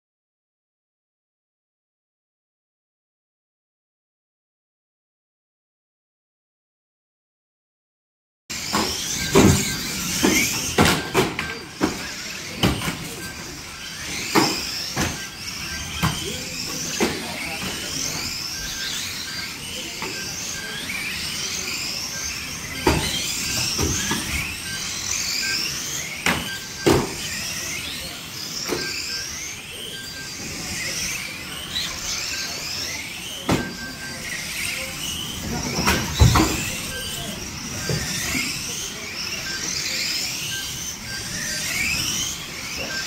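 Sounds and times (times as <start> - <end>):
electric motors whining: 8.5 - 43.0.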